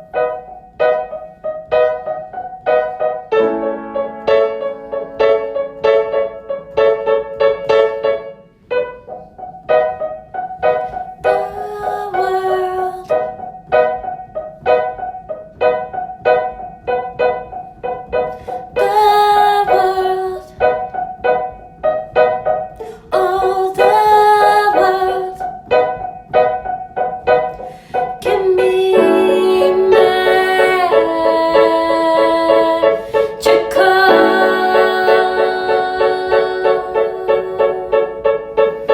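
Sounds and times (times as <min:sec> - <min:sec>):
piano chords and melody: 0:00.0 - 0:38.9.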